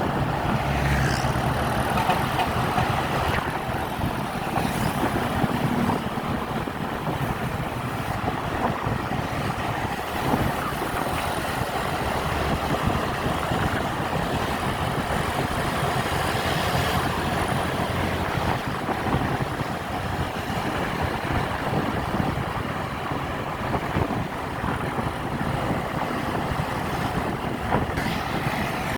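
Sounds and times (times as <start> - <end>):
bus engine and road noise: 0.0 - 28.9.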